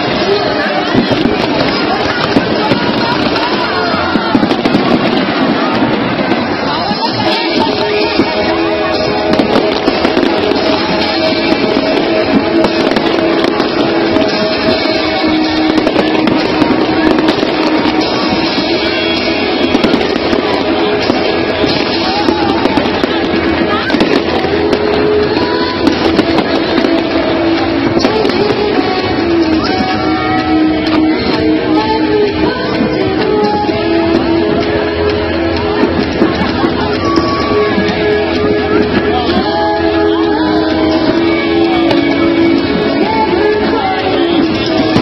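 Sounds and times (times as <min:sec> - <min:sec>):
fireworks popping and crackling: 0:00.0 - 0:45.0
loud music: 0:00.0 - 0:45.0.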